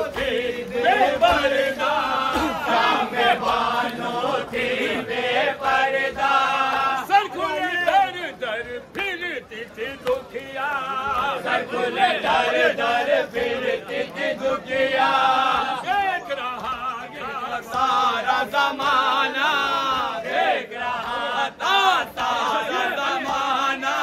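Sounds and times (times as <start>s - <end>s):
men chanting a lament: 0.0s - 24.0s.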